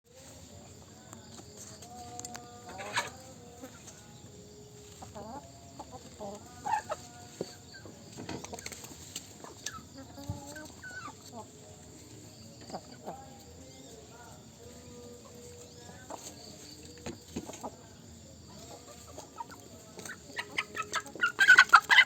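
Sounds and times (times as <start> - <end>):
chickens clucking: 0.1 - 22.0.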